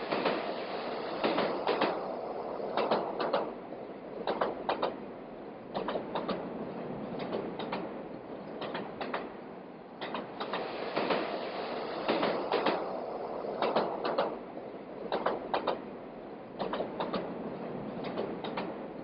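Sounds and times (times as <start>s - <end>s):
train wheels clacking over rail joint: 0.0s - 3.6s, 4.2s - 5.0s, 5.7s - 6.5s, 7.1s - 9.4s, 10.0s - 14.4s, 15.0s - 16.0s, 16.6s - 19.0s.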